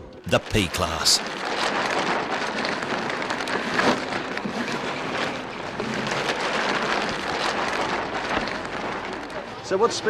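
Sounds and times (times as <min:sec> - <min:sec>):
sail and rigging shaking: 0:00.6 - 0:10.0.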